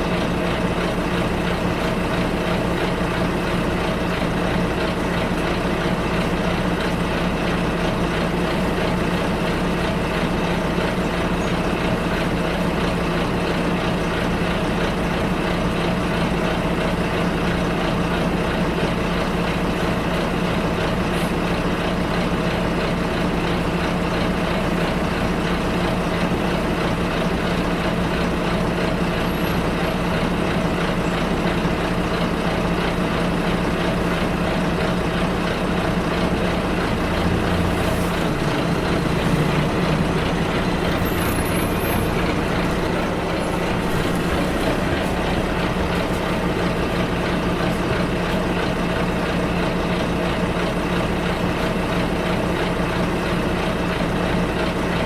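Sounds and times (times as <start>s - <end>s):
bus engine hum: 0.0s - 55.0s
road noise: 0.0s - 55.0s.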